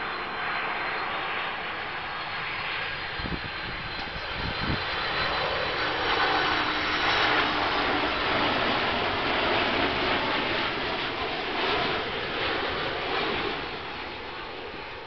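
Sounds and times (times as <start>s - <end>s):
jet passing low: 0.0s - 15.0s.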